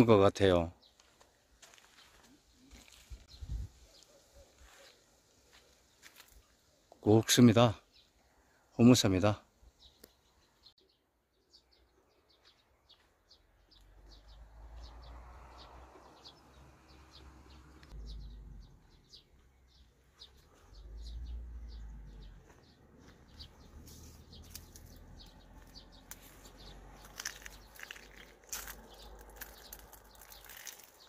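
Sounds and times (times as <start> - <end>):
faint bird chirping: 1.8 - 31.0.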